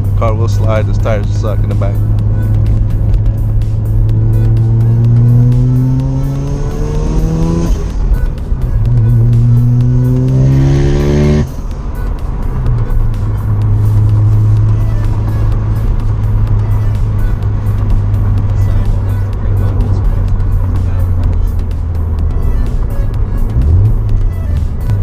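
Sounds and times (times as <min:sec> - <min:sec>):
rotary engine accelerating: 0:00.0 - 0:25.0.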